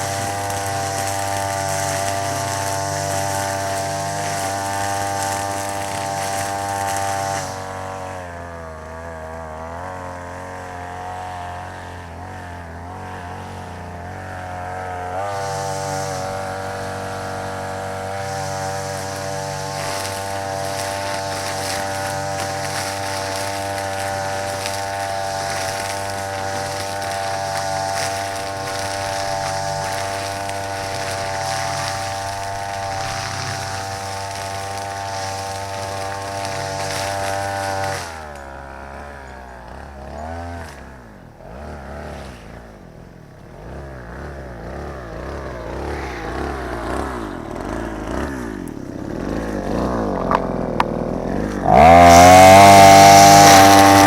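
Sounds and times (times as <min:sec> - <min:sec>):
brush cutter engine: 0:00.0 - 0:54.0.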